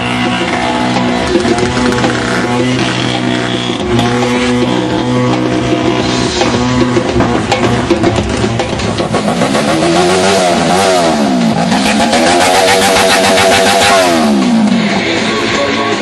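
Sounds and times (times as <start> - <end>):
motorcycle engine revving: 0.0 - 16.0
music with held notes: 0.0 - 16.0.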